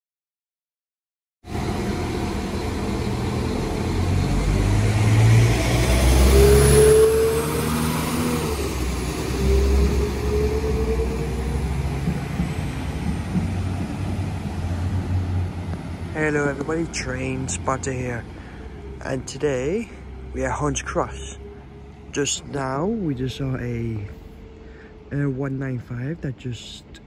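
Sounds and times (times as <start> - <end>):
diesel train engine pulling away: 1.4 - 27.0.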